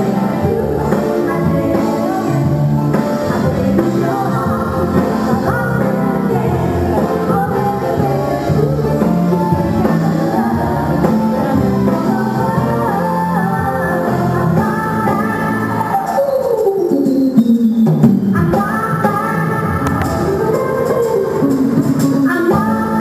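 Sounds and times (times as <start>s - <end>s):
woman singing: 0.0s - 17.1s, 18.3s - 23.0s
live band playing: 0.0s - 23.0s.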